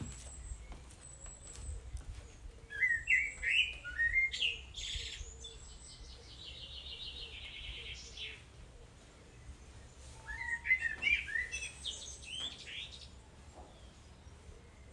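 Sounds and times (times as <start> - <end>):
songbird singing: 0.0 - 14.9.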